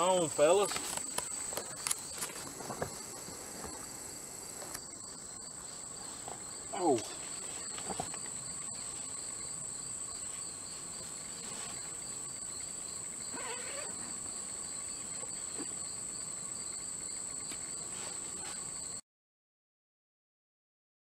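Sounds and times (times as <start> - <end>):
insects high-pitched drone: 0.0 - 19.0
pulsing insect trill: 0.0 - 19.0.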